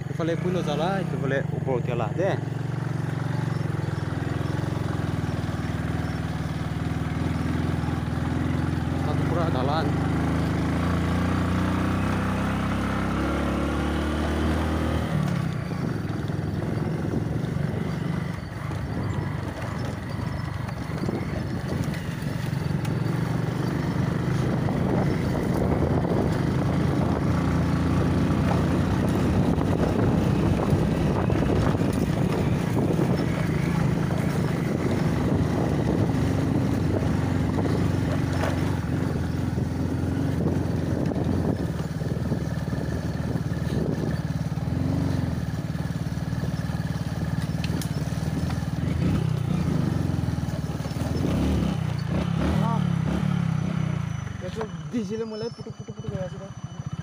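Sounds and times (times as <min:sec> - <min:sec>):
motorcycle engine running: 0:00.0 - 0:57.0
ride noise on dirt track: 0:00.0 - 0:57.0.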